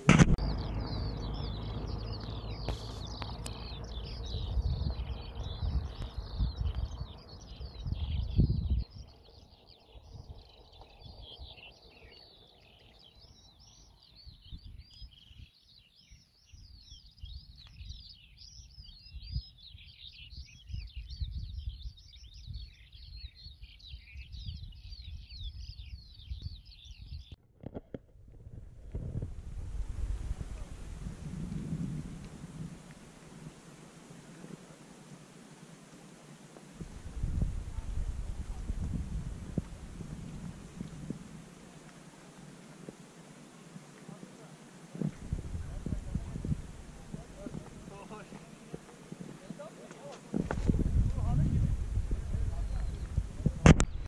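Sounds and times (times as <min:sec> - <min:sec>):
wind rumbling on microphone: 0:00.0 - 0:54.0
songbirds chorus: 0:00.4 - 0:27.4, 0:30.1 - 0:54.0.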